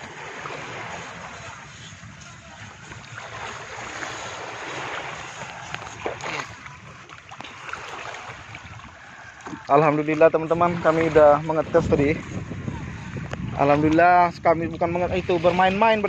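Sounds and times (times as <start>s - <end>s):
water noise: 0.0s - 16.0s
wind buffeting microphone: 0.0s - 16.0s.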